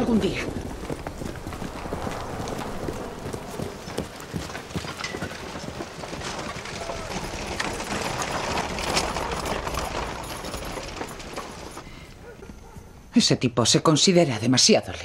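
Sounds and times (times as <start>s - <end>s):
horse hooves clopping: 0.0s - 13.1s
wagon rattling and creaking: 0.0s - 13.1s.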